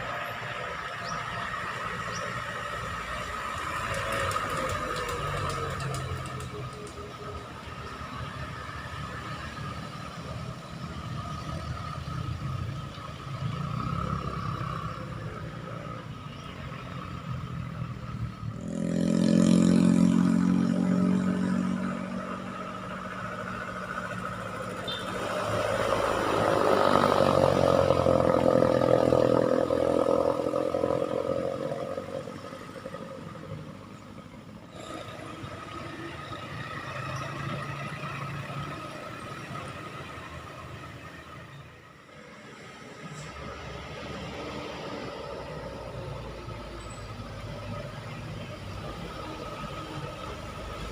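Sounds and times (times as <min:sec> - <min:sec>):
loud vehicle passing: 0:00.0 - 0:50.9
road traffic passing: 0:00.0 - 0:50.9.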